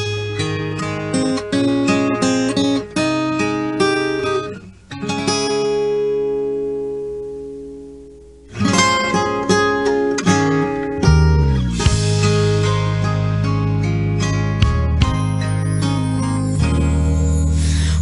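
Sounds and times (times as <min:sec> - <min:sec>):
acoustic guitar picking: 0:00.0 - 0:18.0.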